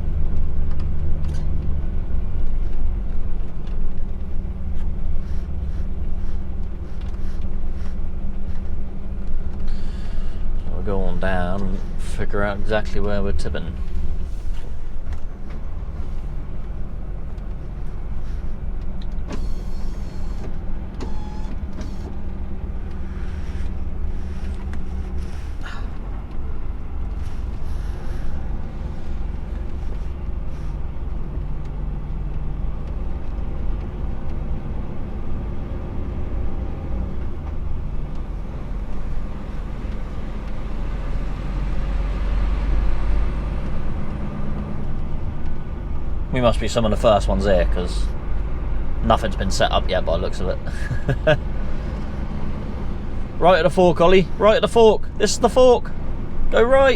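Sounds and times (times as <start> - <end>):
truck diesel engine rumble: 0.0 - 56.9.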